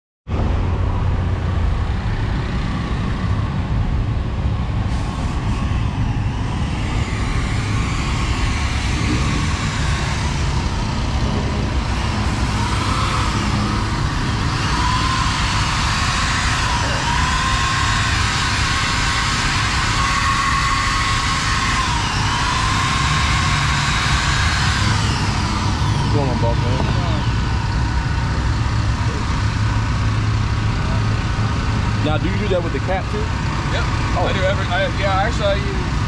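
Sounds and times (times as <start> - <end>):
low mechanical rumble with hiss: 0.3 - 36.0.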